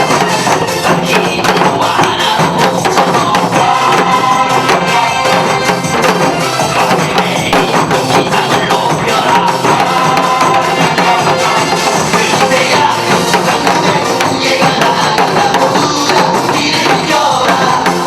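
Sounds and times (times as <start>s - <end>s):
hourglass drums struck rapidly: 0.0s - 18.0s
upbeat dance music: 0.0s - 18.0s.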